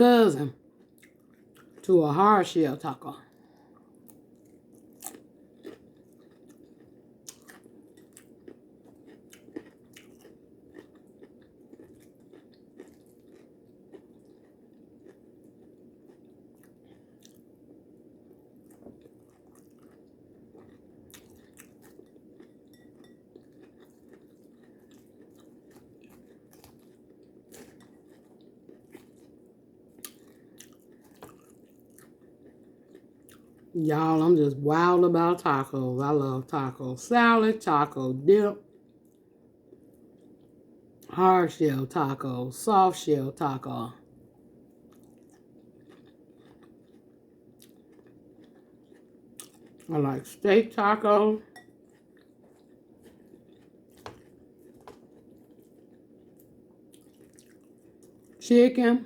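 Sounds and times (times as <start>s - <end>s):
chewing and crunching chips: 0.0s - 41.6s, 42.2s - 58.5s.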